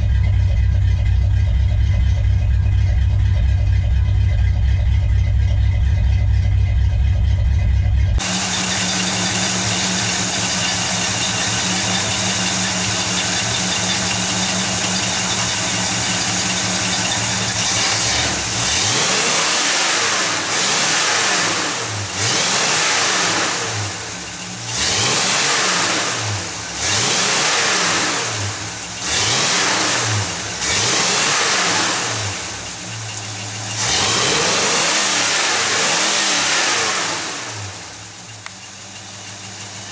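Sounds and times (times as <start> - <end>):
engine revving throttle blips: 0.0 - 39.2
car engine idling: 0.0 - 39.9.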